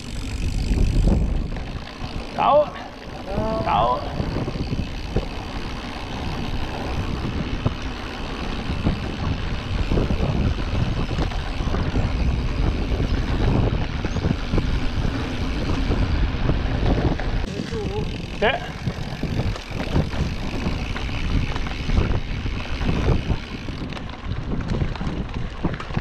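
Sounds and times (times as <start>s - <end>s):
bike knocks and rattles: 0.0s - 26.0s
bike tyres rumbling on dirt: 0.0s - 26.0s
wind on microphone: 0.0s - 26.0s.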